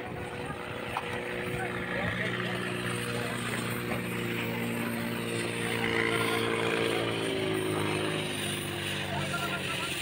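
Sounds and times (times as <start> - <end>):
heavy machinery engine running: 0.0 - 10.0.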